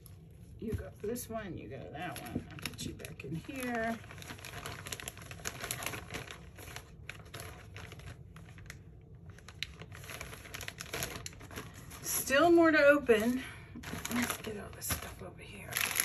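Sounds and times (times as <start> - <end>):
plastic bags crinkling: 1.9 - 16.0.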